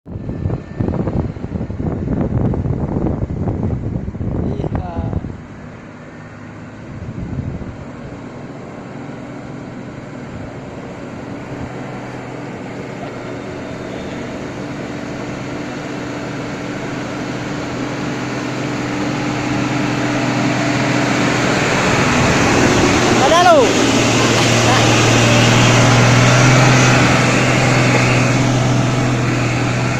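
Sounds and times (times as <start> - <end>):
truck engine running: 5.2 - 29.9.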